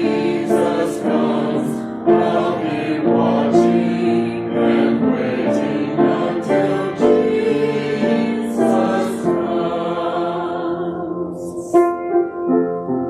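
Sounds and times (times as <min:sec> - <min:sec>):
choir singing: 0:00.0 - 0:12.0
piano accompaniment: 0:00.0 - 0:13.0.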